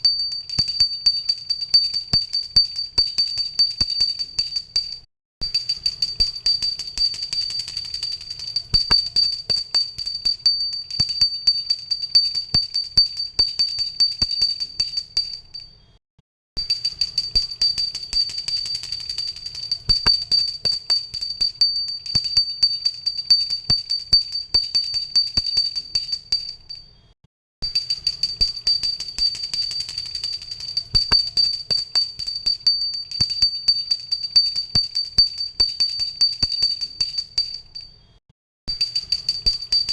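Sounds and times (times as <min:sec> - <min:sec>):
hand bell ringing rapidly: 0:00.0 - 0:15.7, 0:16.6 - 0:26.8, 0:27.6 - 0:37.9, 0:38.7 - 0:39.9.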